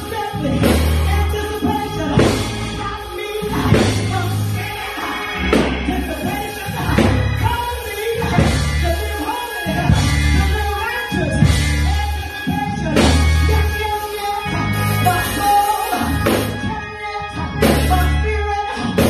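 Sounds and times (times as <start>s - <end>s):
gospel music with singing: 0.0s - 19.0s.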